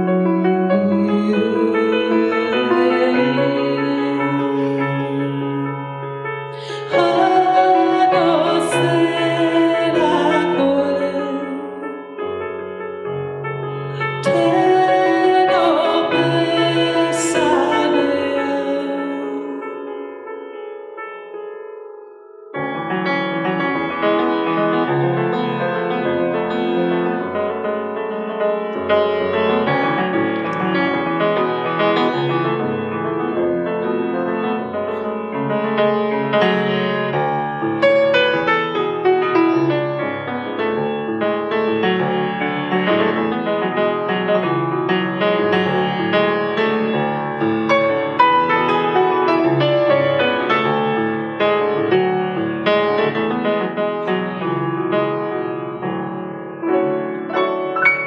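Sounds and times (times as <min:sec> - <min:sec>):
instrumental piano music: 0:00.0 - 0:58.0.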